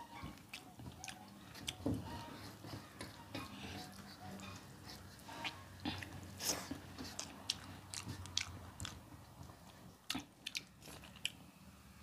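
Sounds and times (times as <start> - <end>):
person chewing: 0.0 - 11.5.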